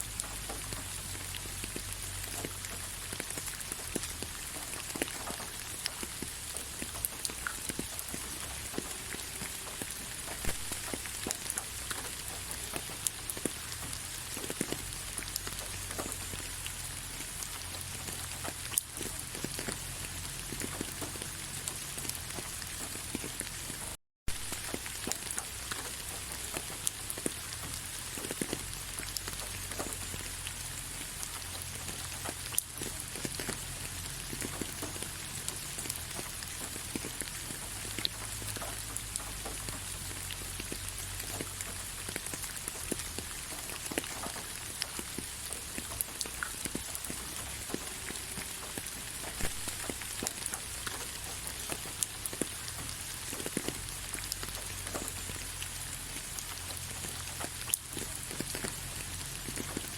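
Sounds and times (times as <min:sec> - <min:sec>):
rain drops tapping: 0:00.0 - 0:59.9.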